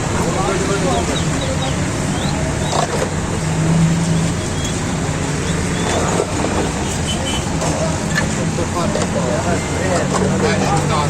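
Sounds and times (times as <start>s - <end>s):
vehicle engines humming: 0.0s - 11.0s.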